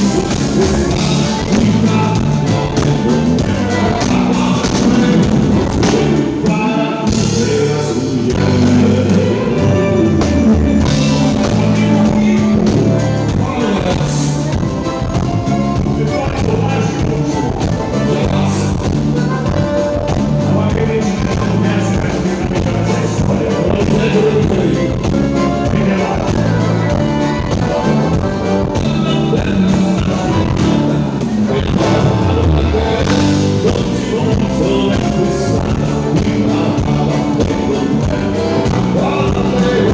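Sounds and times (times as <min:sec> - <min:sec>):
band music with singing: 0:00.0 - 0:39.9.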